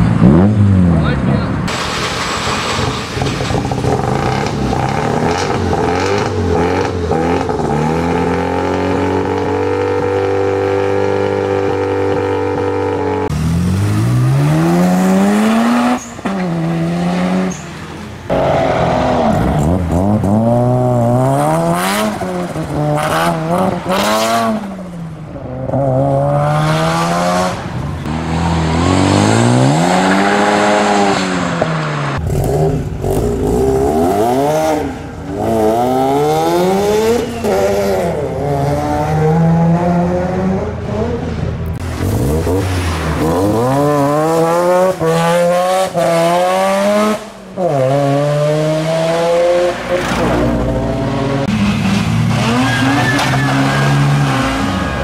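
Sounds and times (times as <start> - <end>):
car engines revving and accelerating: 0.0 - 55.0.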